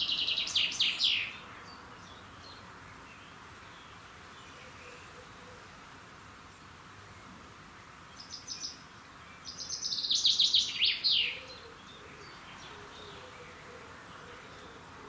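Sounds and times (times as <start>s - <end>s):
songbird singing: 0.0s - 5.2s, 8.1s - 15.0s.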